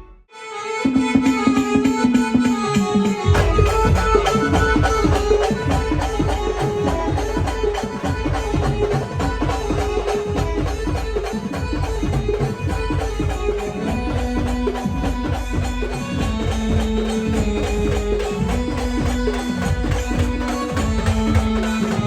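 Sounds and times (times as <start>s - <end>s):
fast steady drums: 1.3s - 22.0s.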